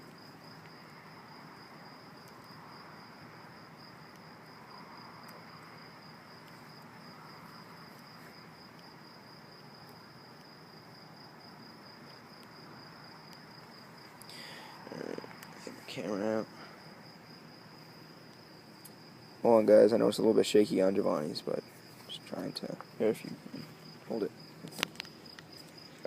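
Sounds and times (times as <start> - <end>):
crickets chirping: 0.0 - 26.0
faint background hiss: 0.0 - 26.0.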